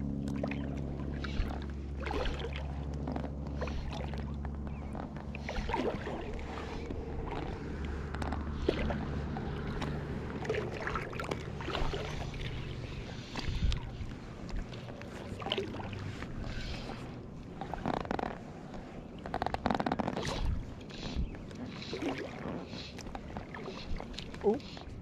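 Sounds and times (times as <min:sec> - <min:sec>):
steady low hum: 0:00.0 - 0:25.0
water lapping and splashing: 0:00.0 - 0:25.0.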